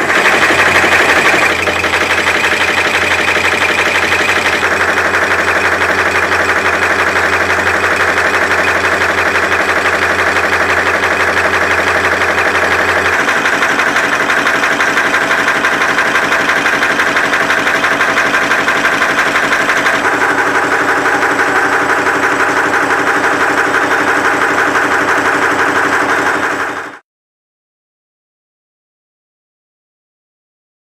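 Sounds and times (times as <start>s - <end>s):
nail making machine clattering: 0.0s - 27.0s.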